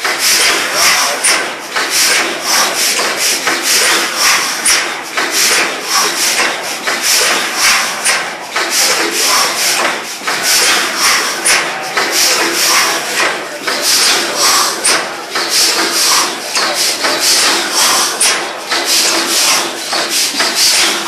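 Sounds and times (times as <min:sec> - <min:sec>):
compressor engine clattering: 0:00.0 - 0:21.0.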